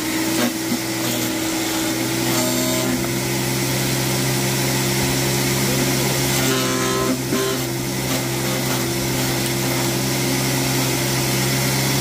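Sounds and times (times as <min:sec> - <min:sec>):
branch shredder chewing branches: 0:00.0 - 0:12.0.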